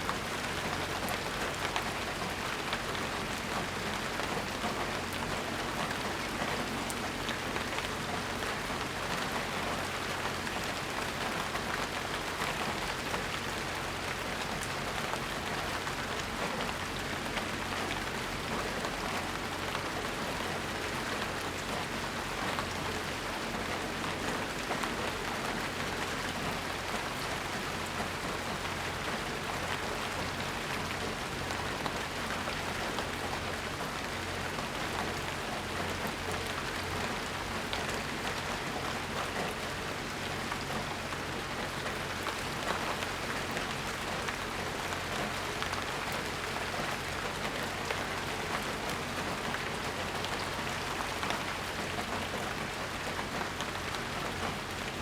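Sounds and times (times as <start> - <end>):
steady rain with dripping patter: 0.0 - 55.0.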